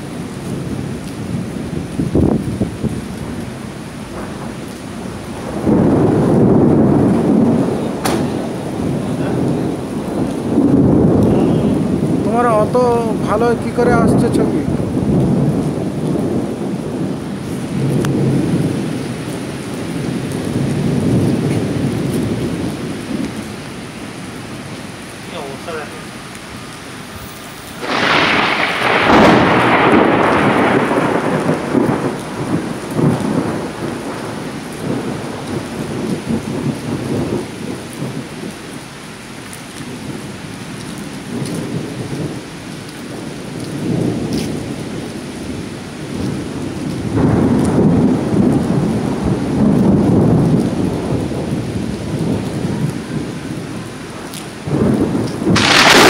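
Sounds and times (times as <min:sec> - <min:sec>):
thunder: 0:00.0 - 0:03.4, 0:04.1 - 0:23.4, 0:27.2 - 0:38.7, 0:39.8 - 0:56.0
steady rain: 0:00.0 - 0:56.0.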